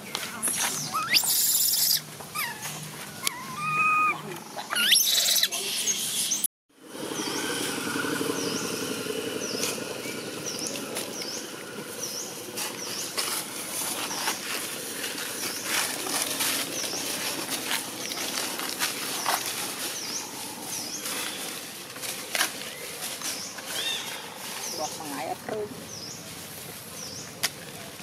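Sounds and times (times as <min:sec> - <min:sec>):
rustles in dry leaves: 0:00.0 - 0:28.0.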